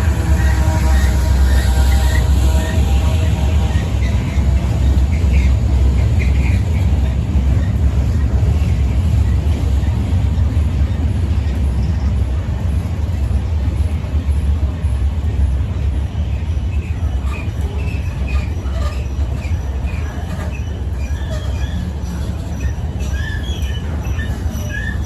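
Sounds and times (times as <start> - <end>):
railcars rumbling on track: 0.0 - 25.0.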